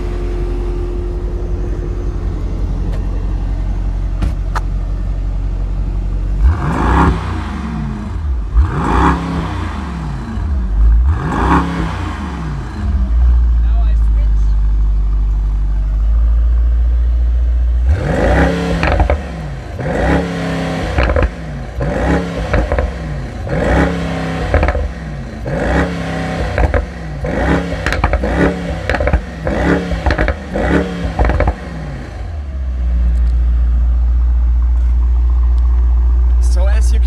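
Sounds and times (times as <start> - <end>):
car exhaust idling and revving: 0.0 - 37.0.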